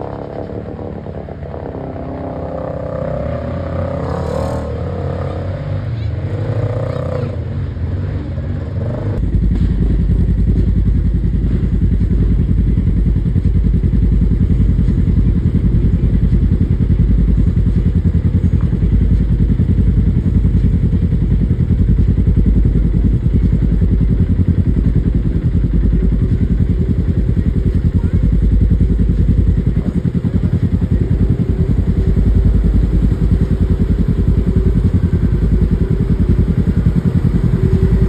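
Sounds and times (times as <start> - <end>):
off-road vehicle engine running: 0.0 - 38.0.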